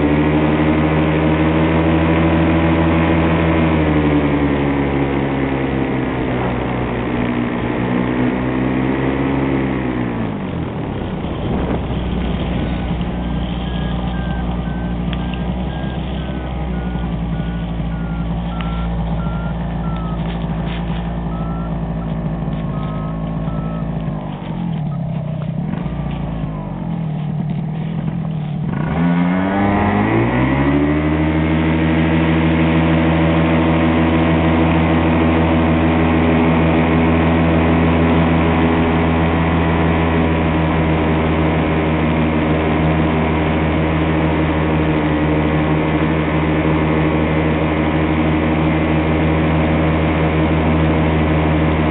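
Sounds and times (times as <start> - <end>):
paramotor engine and propeller: 0.0 - 51.9.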